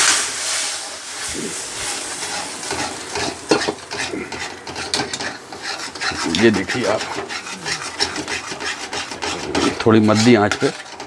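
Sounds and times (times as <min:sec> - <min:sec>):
mixture sizzling in a pan: 0:00.0 - 0:11.0
spatula scraping a metal pan: 0:01.8 - 0:11.0.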